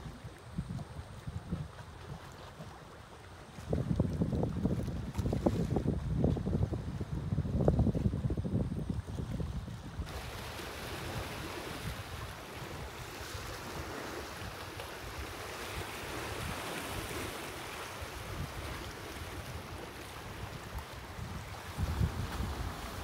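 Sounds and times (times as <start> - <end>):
wind blowing over microphone: 0.0 - 2.3, 3.5 - 23.0.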